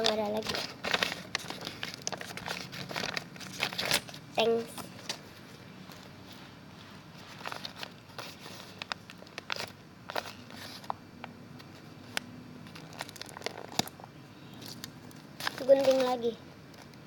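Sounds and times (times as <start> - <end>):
packaging crinkling and rustling: 0.0 - 6.1, 7.1 - 11.0, 11.6 - 17.0.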